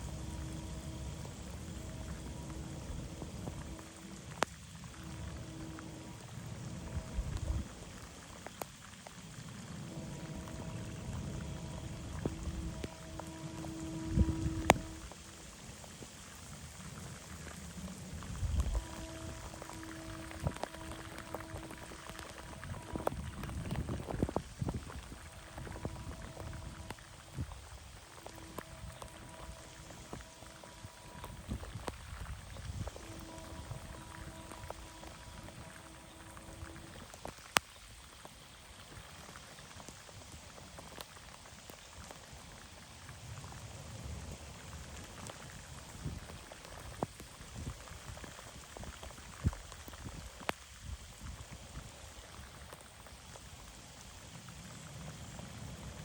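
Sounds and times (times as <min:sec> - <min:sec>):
rain falling: 0:00.0 - 0:56.0
raindrops splashing close: 0:00.0 - 0:56.0.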